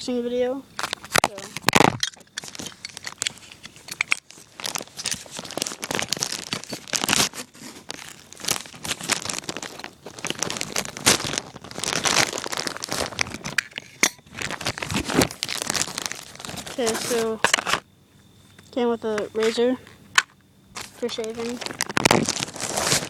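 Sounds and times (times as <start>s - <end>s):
packaging crinkling and tearing: 0.8s - 17.8s, 19.4s - 23.0s.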